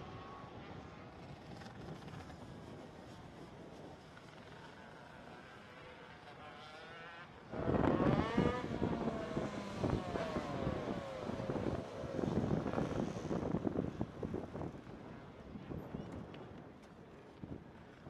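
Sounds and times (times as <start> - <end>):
kart engines running at low revs: 0.0 - 15.0.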